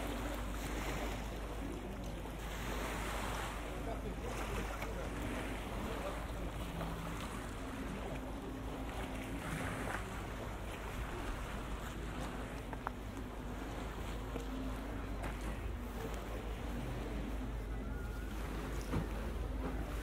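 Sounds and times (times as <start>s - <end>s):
river water washing: 0.0s - 20.0s
wind: 0.0s - 20.0s.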